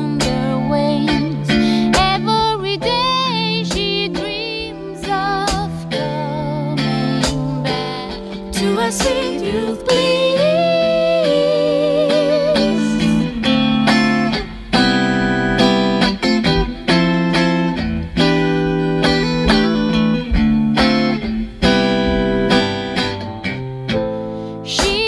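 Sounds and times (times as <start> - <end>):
electric guitar strumming chords: 0.0 - 25.0.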